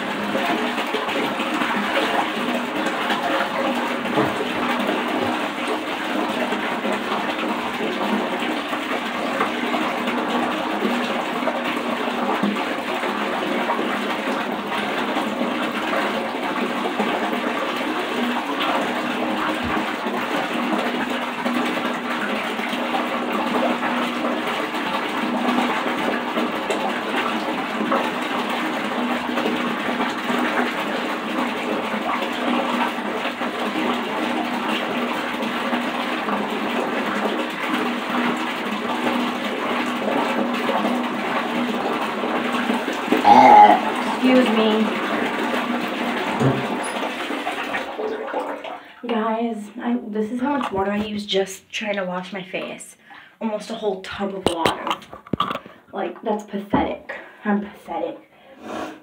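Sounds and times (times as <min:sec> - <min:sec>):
water pouring into bathtub: 0:00.0 - 0:59.0.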